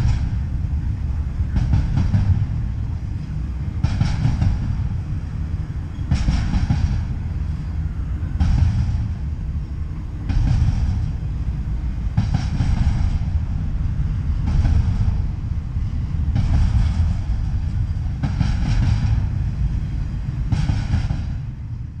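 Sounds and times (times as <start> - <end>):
freight train rumble: 0.0 - 22.0
wheels rattling on rail: 0.0 - 22.0.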